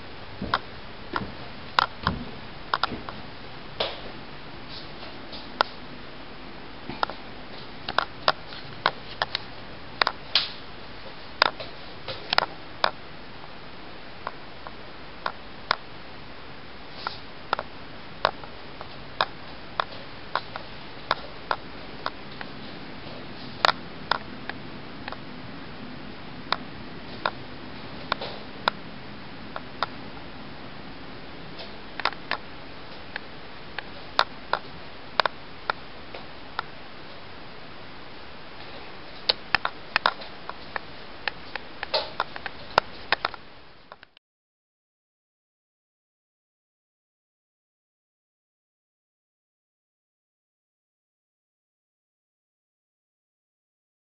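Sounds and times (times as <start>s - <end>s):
background hiss: 0.0s - 44.1s.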